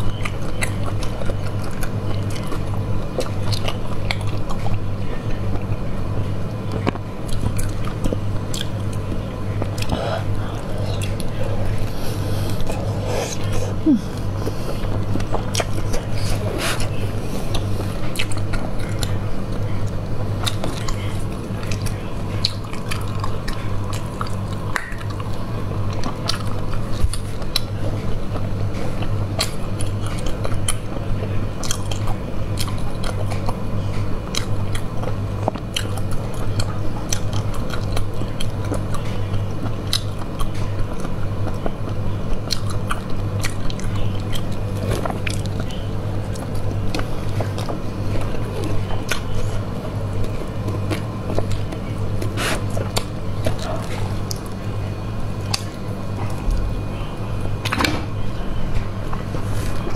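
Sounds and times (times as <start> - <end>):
chewing with clicks and smacks: 0.0 - 57.9
steady low hum: 0.0 - 59.9.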